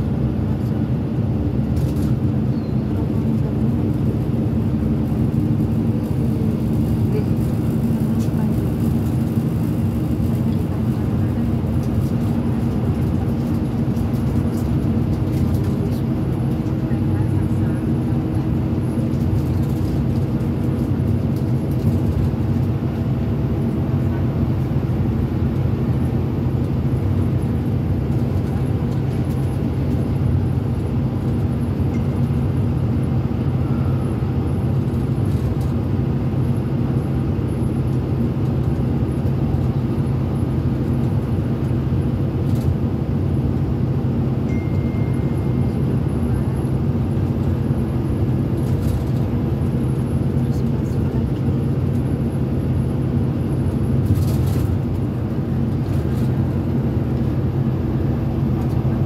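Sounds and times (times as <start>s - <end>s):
minibus engine drone: 0.0s - 59.0s.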